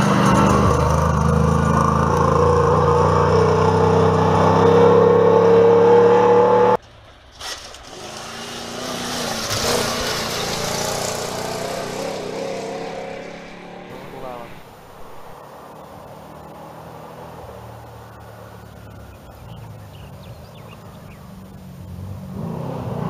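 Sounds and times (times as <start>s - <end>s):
truck passing on gravel: 0.0s - 4.6s, 6.8s - 23.0s
truck engine at full throttle: 0.0s - 6.8s, 7.4s - 23.0s.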